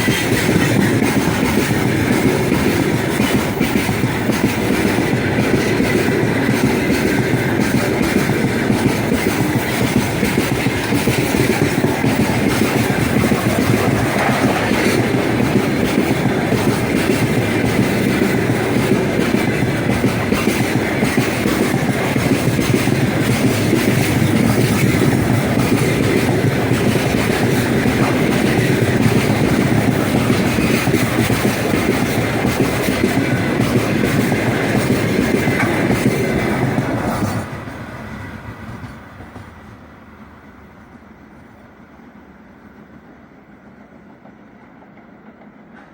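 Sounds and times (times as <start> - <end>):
wheels clacking over rail joints: 0.0 - 37.9
freight train rumbling past: 0.0 - 45.9.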